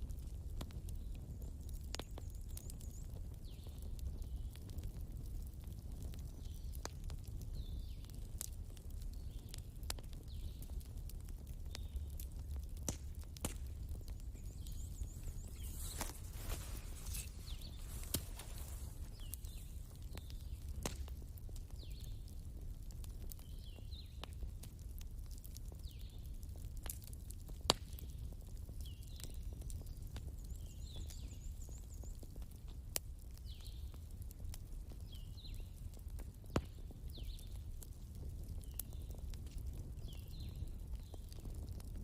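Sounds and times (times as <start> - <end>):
fire crackling pops: 0.0 - 42.0
wood fire rumbling: 0.0 - 42.0.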